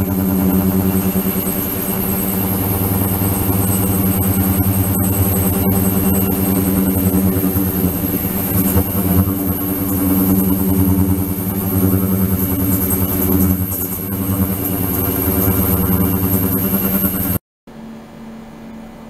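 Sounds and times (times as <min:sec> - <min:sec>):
thin high tone: 0:00.0 - 0:17.4
ultrasonic cleaner humming: 0:00.0 - 0:17.4.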